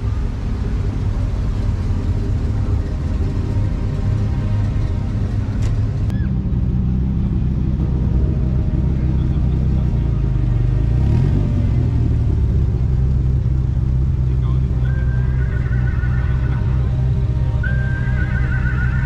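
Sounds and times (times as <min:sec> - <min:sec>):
cars exhaust rumble: 0:00.0 - 0:19.0
sports car engine revving: 0:00.0 - 0:19.0.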